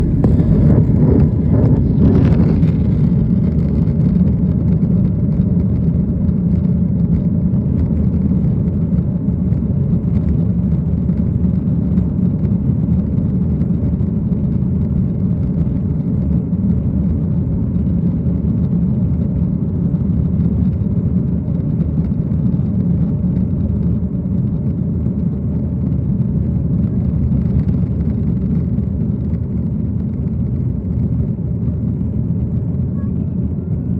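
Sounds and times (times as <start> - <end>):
aeroplane rumble: 0.0 - 33.9.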